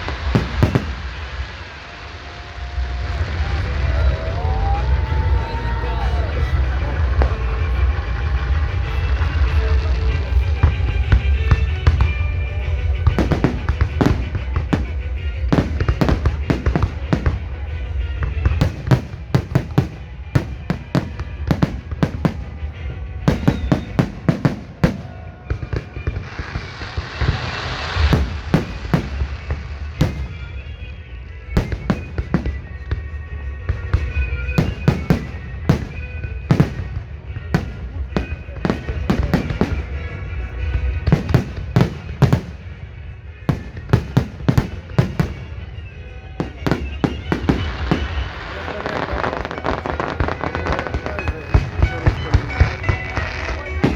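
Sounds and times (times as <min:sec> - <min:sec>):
faint music: 0:00.0 - 0:53.9
firework bangs: 0:00.0 - 0:53.9.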